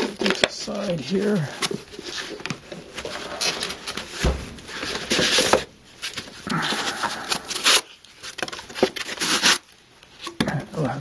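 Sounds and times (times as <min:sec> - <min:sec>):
packaging rustling: 0:00.0 - 0:10.5.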